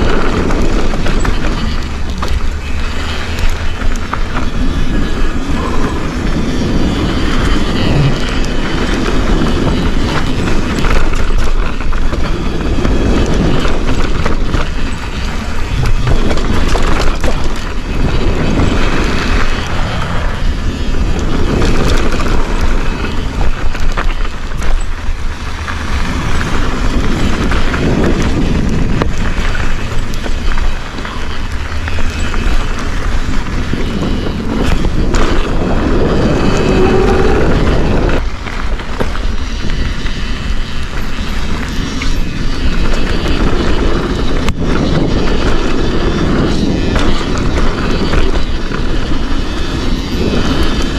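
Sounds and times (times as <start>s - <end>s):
low rumble: 0.0s - 41.7s
bike clicks and rattles: 0.0s - 50.9s
wind on microphone: 0.0s - 50.9s.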